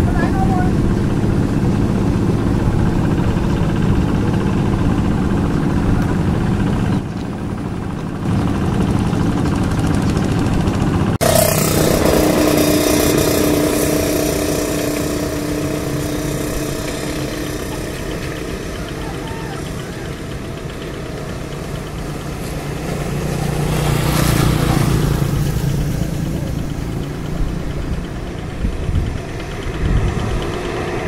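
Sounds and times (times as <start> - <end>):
diesel engine running: 0.0 - 31.0
steady hum: 0.0 - 31.0.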